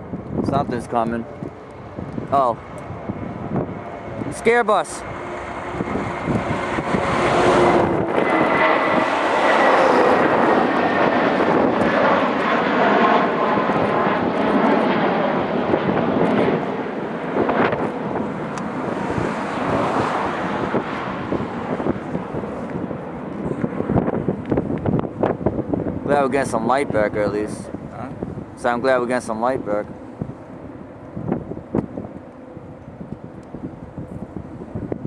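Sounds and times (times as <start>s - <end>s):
jet engines passing by: 0.0s - 35.0s.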